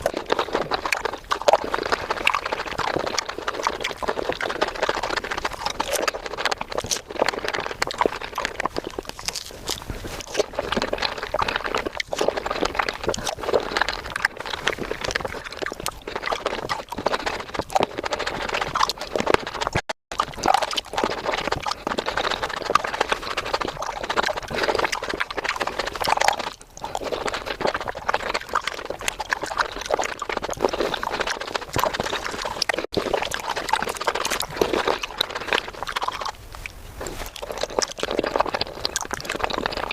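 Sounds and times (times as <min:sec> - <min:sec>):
fast crunching and wet chewing: 0:00.0 - 0:39.9.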